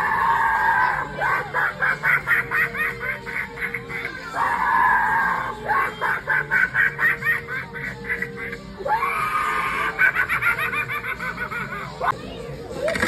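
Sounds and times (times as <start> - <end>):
rapid laughter: 1.1 - 12.1.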